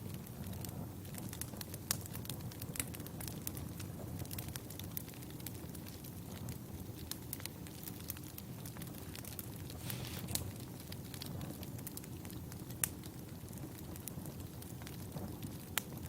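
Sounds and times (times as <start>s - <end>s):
campfire burning: 0.0s - 16.0s
logs crackling and popping: 0.0s - 16.0s.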